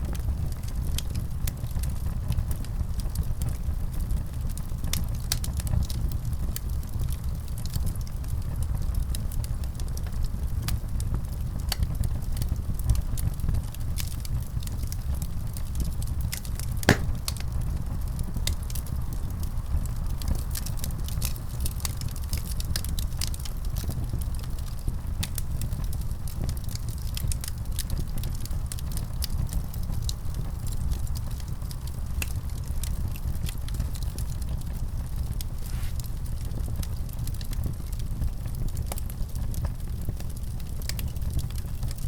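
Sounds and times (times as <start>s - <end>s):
sharp crack of fire: 0.0s - 42.0s
wood fire crackling: 0.0s - 42.0s.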